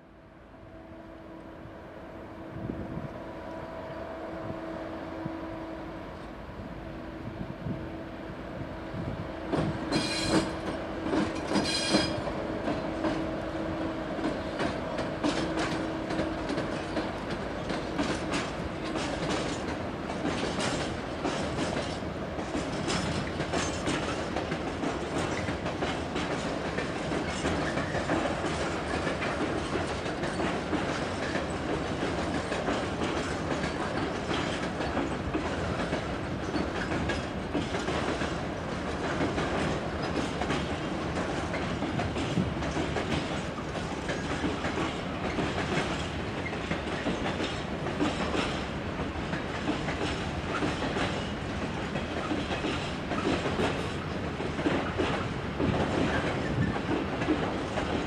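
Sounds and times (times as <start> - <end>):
train wheels clickety-clack: 9.0 - 58.0.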